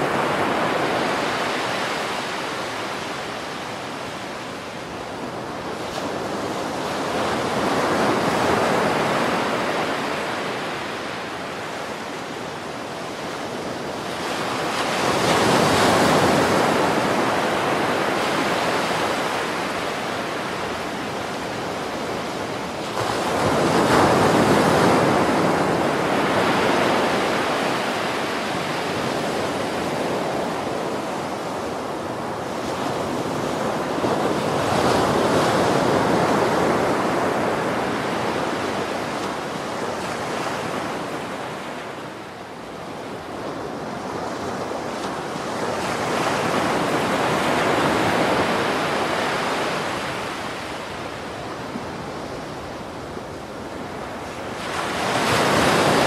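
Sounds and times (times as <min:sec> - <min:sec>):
water rushing along ship: 0:00.0 - 0:56.0.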